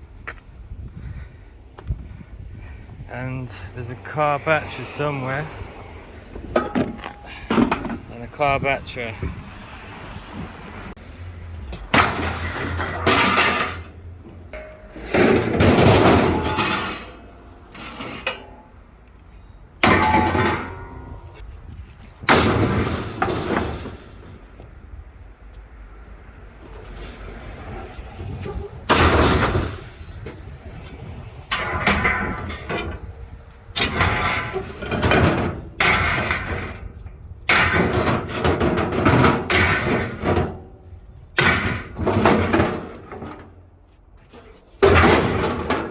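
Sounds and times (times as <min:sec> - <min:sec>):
scrap metal clanking and clattering: 0:03.2 - 0:08.3, 0:11.0 - 0:24.8, 0:26.1 - 0:45.9.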